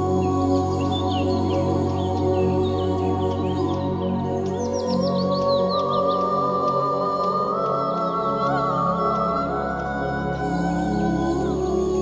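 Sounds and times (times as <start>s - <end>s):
bird chirping: 0.0s - 12.0s
relaxation music of held tones: 0.0s - 12.0s.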